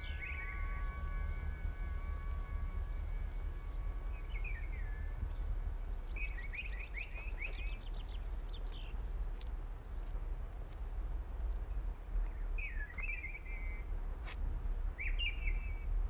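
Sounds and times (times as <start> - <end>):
songbird chirping and trilling: 0.0 - 9.2, 11.4 - 15.9
low outdoor rumble: 0.0 - 16.0.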